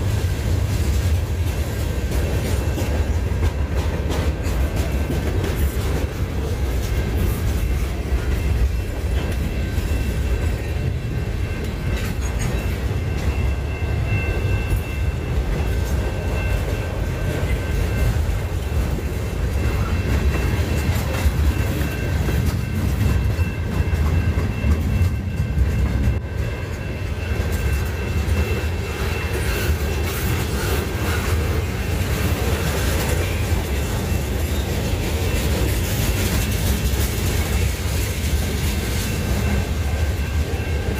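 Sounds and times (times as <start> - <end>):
freight train rumbling past: 0.0 - 40.9
wheels clacking over rail joints: 0.0 - 40.9.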